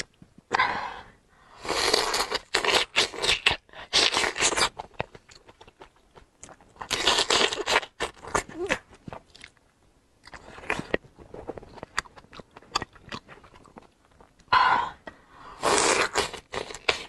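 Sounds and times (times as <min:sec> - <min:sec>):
crunching and chewing: 0:01.8 - 0:14.5, 0:15.6 - 0:17.0.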